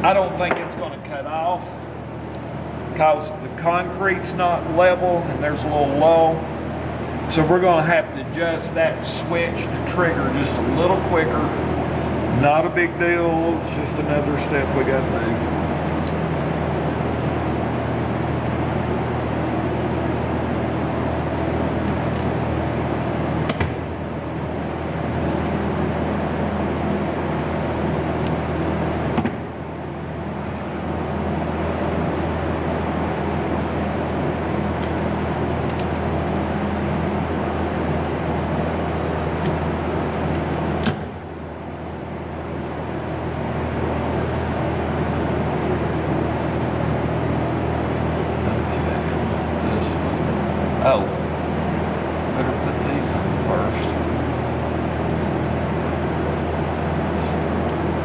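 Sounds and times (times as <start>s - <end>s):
machine humming: 0.0s - 58.0s.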